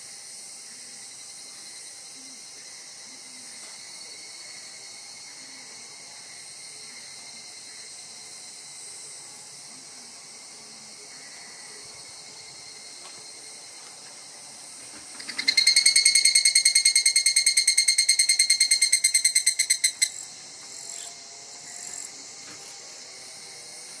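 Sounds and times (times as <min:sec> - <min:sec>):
cicada rapid trill: 0:00.0 - 0:24.0
distant cicadas hissing: 0:00.0 - 0:24.0.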